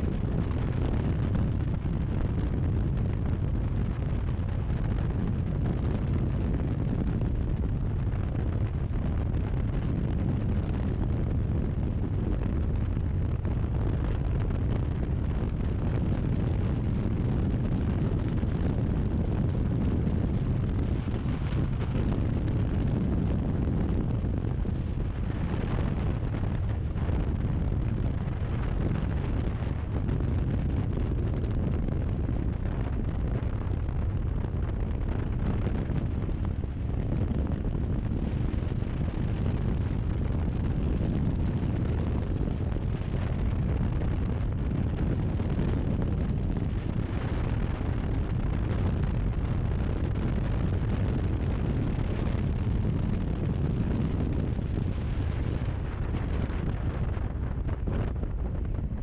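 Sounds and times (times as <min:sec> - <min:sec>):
motorcycle engine and tyre noise: 0:00.0 - 0:59.0
wind rumble on microphone: 0:00.0 - 0:59.0.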